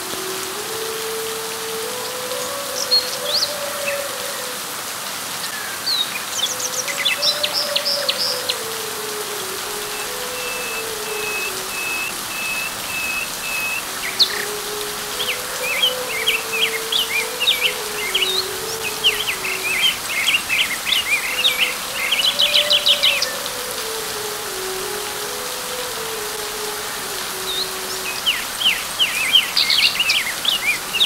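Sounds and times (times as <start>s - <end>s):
birds chirping: 0.0s - 4.5s, 5.7s - 31.0s
rain falling on leaves: 0.0s - 31.0s.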